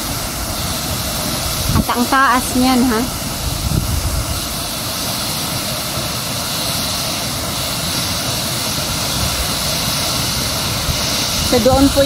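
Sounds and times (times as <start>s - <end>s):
waterfall crashing into pool: 0.0s - 12.0s.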